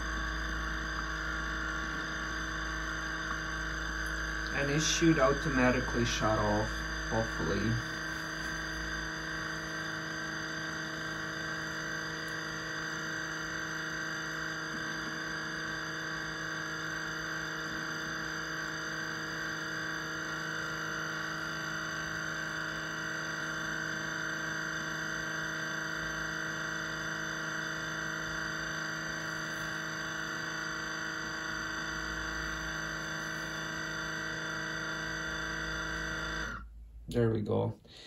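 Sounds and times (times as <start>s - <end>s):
coffee maker buzzing hum: 0.0s - 37.0s.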